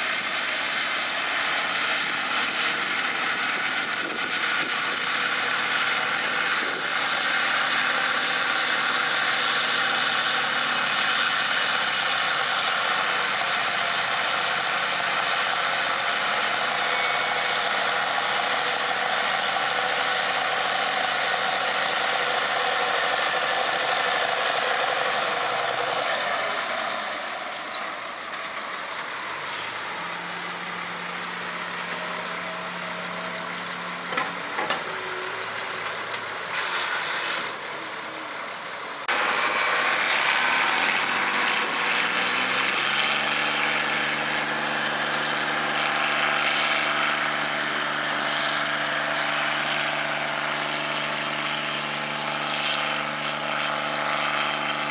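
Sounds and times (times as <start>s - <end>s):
tractor diesel engine working hard: 0.0s - 54.9s.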